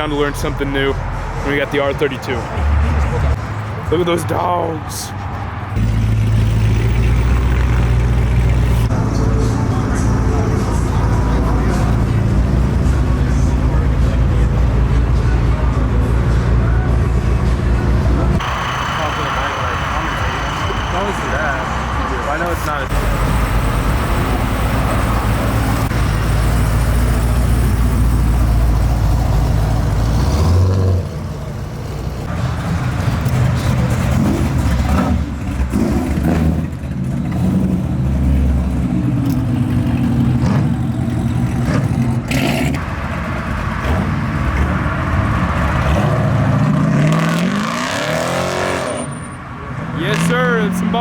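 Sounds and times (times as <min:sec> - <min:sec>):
car engines revving: 0:00.0 - 0:51.0.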